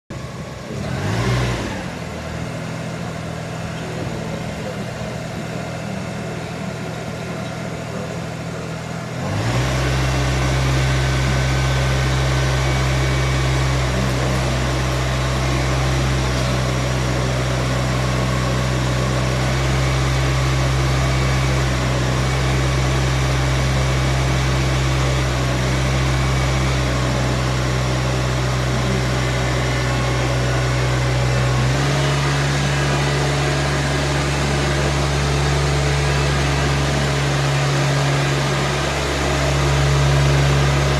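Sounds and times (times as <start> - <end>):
tractor diesel engine running: 0.1 - 40.9.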